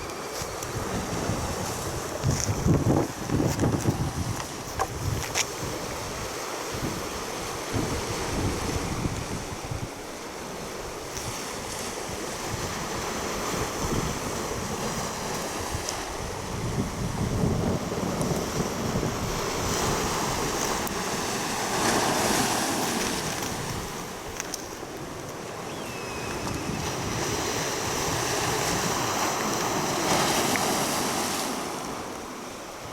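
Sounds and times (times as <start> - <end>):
wind buffeting microphone: 0.0 - 32.2
sea waves washing: 0.0 - 32.9.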